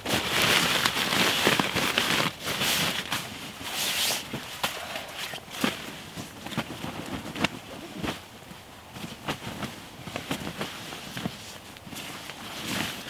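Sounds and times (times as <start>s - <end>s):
leaf litter crackles and taps: 0.0s - 13.0s
sleeping bag rustling: 0.0s - 13.0s.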